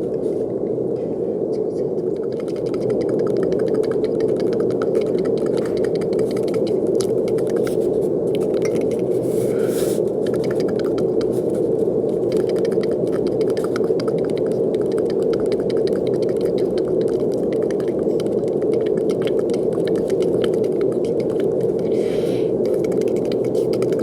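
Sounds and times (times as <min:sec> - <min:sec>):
deep rushing brown noise: 0:00.0 - 0:24.0.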